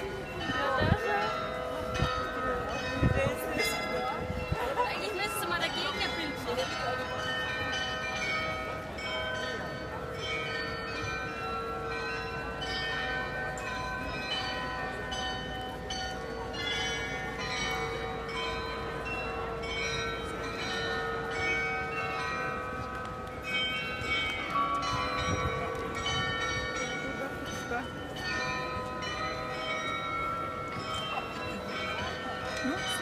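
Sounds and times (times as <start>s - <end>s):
tuned bells playing a tune: 0.0s - 33.0s.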